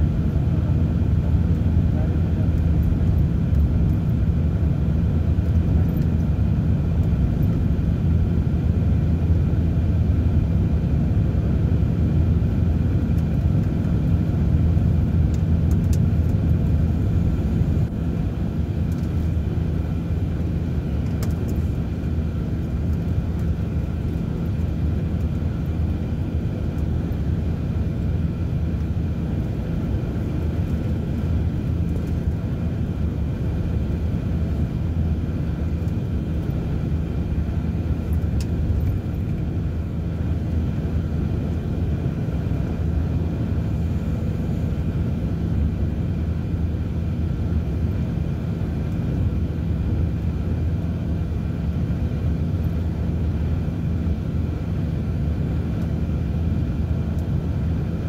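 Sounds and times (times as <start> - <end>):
road and engine rumble inside vehicle: 0.0 - 58.0.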